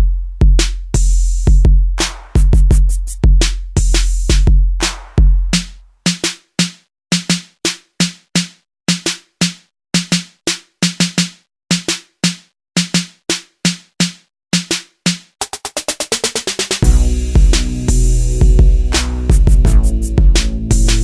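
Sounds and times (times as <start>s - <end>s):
drum machine beat: 0.0s - 21.0s.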